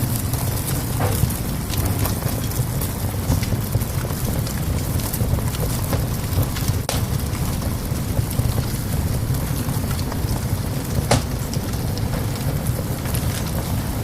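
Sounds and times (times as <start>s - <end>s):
loud pops from fire: 0.0s - 14.0s
wood fire crackling: 0.0s - 14.0s.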